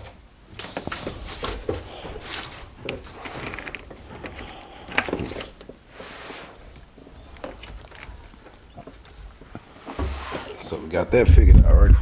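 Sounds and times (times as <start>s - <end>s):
hands working a wire: 0.0s - 10.7s.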